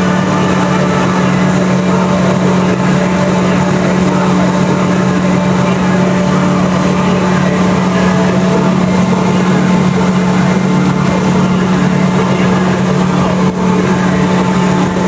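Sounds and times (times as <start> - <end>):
boat engine humming: 0.0 - 15.0
rush of boat wake: 0.0 - 15.0.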